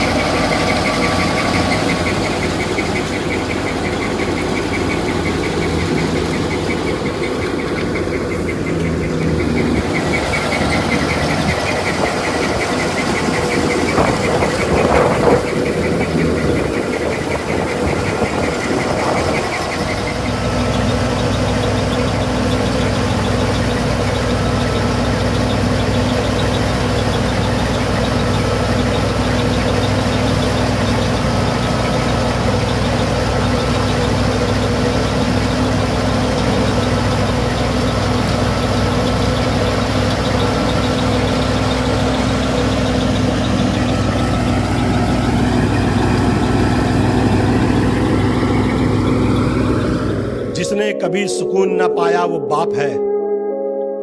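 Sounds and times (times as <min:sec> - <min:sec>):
harvest machinery engine running: 0:00.0 - 0:50.9
deep engine drone: 0:00.0 - 0:51.0.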